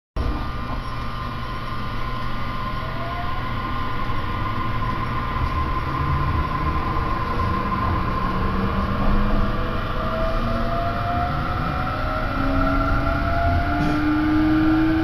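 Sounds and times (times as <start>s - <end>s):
constant high whine: 0.2s - 15.0s
train low rumble: 0.2s - 15.0s.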